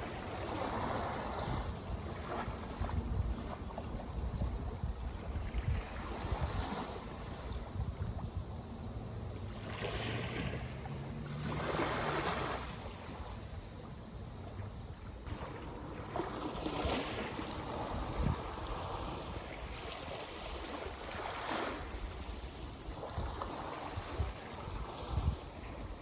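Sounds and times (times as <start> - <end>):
small waves breaking on shore: 0.0 - 26.0.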